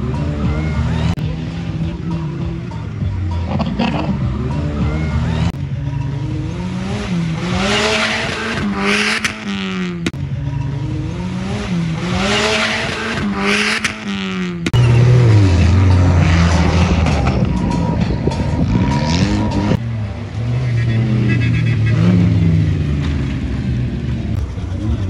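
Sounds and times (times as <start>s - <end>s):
race vehicle engines revving: 0.0s - 25.0s.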